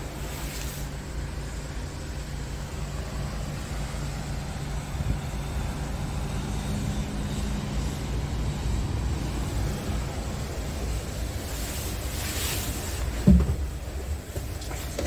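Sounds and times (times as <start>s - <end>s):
truck diesel engine idling: 0.0s - 14.9s.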